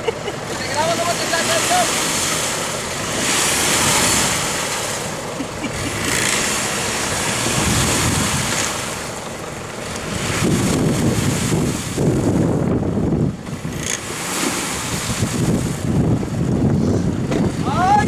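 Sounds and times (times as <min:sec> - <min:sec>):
engine running low: 0:00.0 - 0:18.0
water sloshing around wheels: 0:00.0 - 0:18.0.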